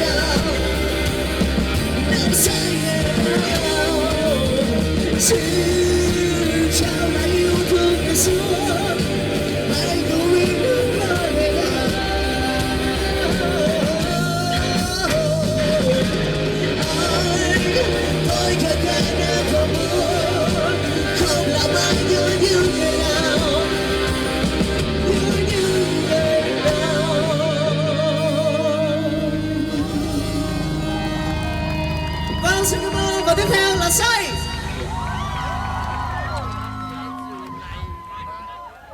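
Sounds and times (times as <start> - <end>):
rock music: 0.0 - 38.4.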